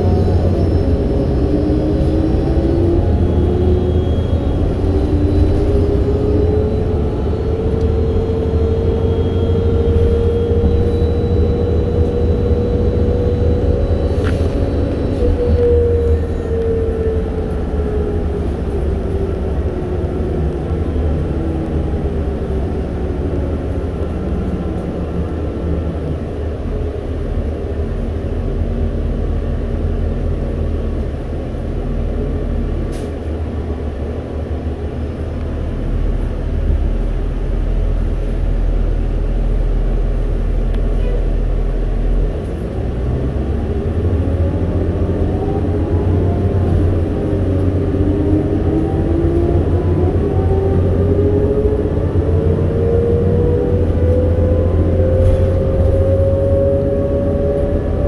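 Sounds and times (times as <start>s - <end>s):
bus drivetrain whine: 0.0s - 58.0s
bus engine rumble: 0.0s - 58.0s.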